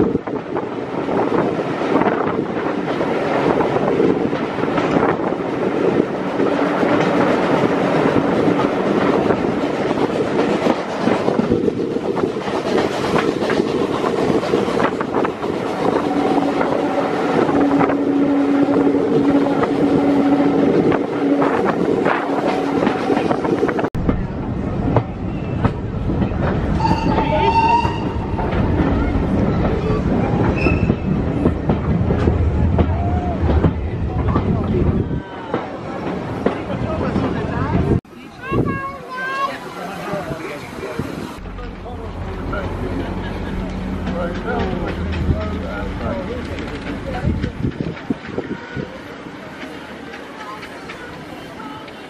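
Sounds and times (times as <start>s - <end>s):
train wheels rumbling and rattling: 0.0s - 52.0s.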